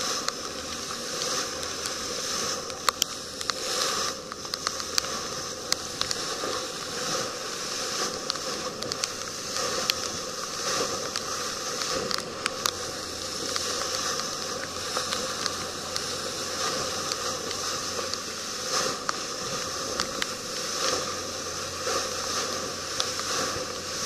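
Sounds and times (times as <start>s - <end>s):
sharp ticks: 0.0s - 21.2s
low hum: 0.0s - 24.0s
water rushing past boat hull: 0.0s - 24.0s.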